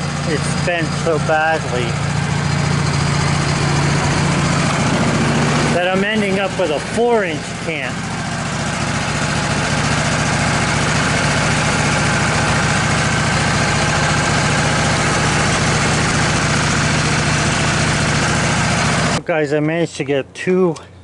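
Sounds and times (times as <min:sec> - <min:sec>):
band sawmill engine droning: 0:00.0 - 0:21.0.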